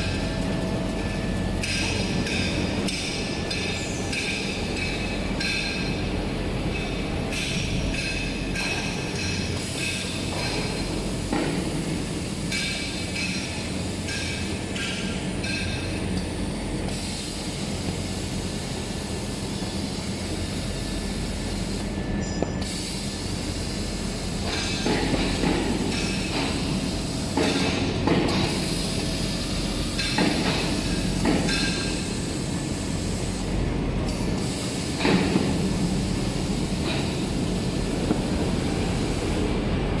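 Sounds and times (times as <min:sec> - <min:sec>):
machine hiss: 0:00.0 - 0:40.0.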